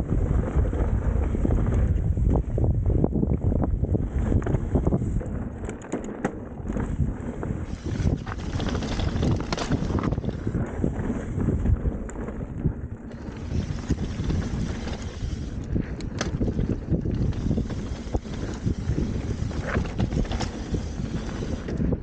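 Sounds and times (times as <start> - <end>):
bike knocking and rattling: 0.0 - 22.0
bike tyres rumbling: 0.0 - 22.0
wind rushing over microphone: 0.0 - 22.0.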